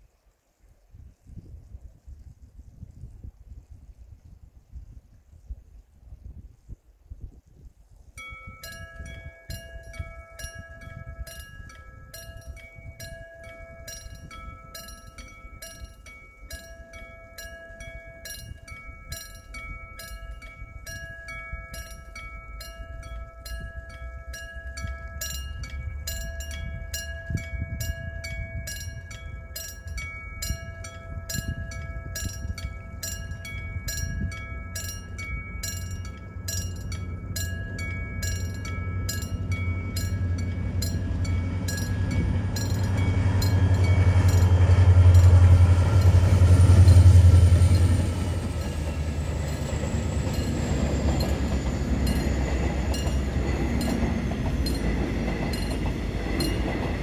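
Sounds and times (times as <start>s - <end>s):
crossing warning bell ringing: 8.2s - 57.0s
diesel train rumbling: 8.6s - 57.0s.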